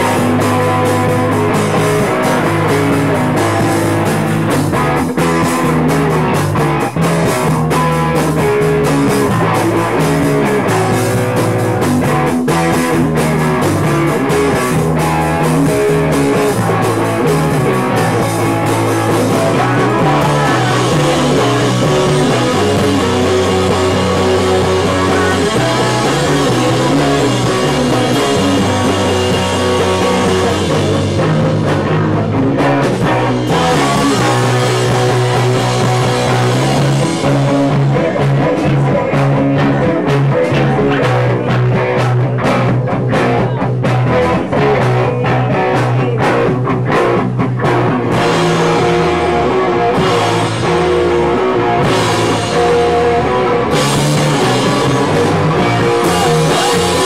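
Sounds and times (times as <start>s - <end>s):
drum kit: 0.0s - 57.0s
electric bass: 0.0s - 57.0s
electric guitar: 0.0s - 57.0s.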